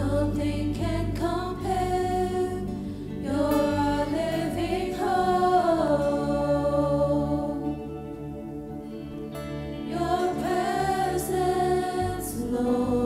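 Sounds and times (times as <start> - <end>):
voices singing in harmony: 0.0 - 8.5, 9.6 - 13.0
acoustic guitar: 0.0 - 13.0.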